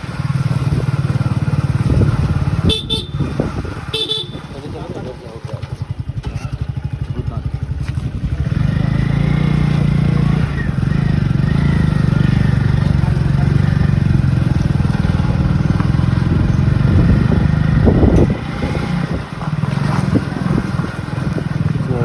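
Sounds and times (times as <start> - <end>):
motorcycle engines running: 0.0 - 22.0
road traffic: 0.0 - 22.0.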